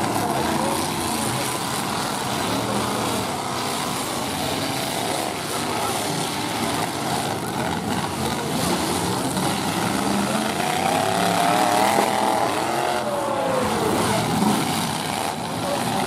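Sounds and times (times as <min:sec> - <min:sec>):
engine revving: 0:00.0 - 0:16.0
truck engines running: 0:00.0 - 0:16.0.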